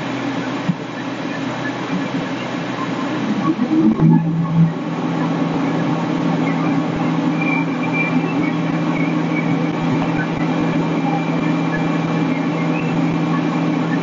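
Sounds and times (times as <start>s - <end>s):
truck engine deep drone: 0.0s - 14.0s.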